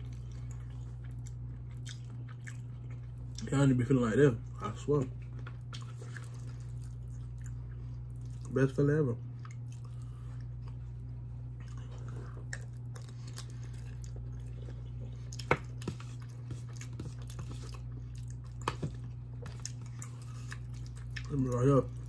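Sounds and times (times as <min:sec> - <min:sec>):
person chewing: 0:00.0 - 0:03.5, 0:05.1 - 0:08.6, 0:09.2 - 0:22.0
low steady hum: 0:00.0 - 0:22.0.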